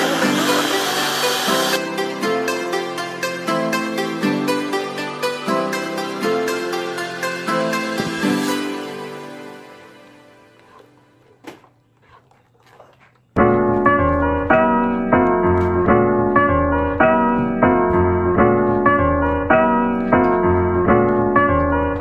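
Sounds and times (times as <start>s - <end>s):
piano chords: 0.0s - 11.2s, 13.4s - 22.0s.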